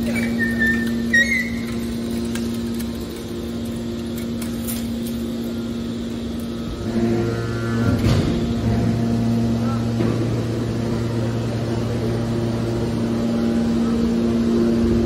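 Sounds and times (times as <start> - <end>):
deeper hum: 0.0 - 15.0
hydraulic power unit humming: 0.0 - 15.0.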